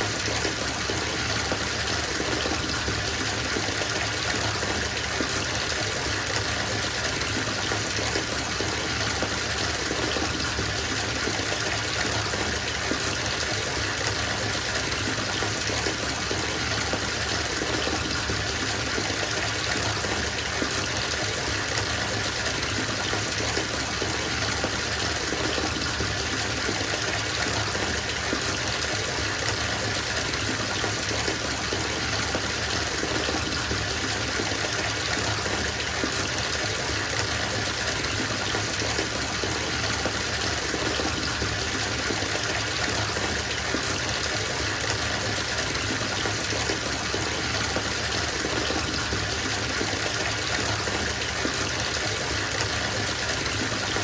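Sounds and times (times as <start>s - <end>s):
water gushing from tap into tub: 0.0s - 54.0s.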